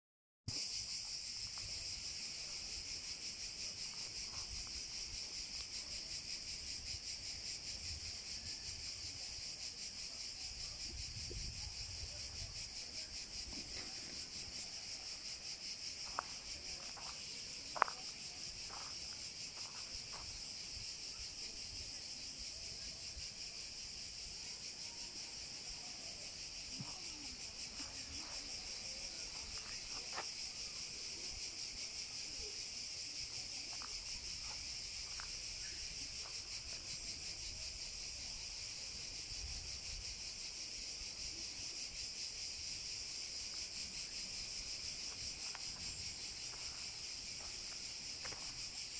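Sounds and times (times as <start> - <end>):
cicadas buzzing: 0.5 - 48.9.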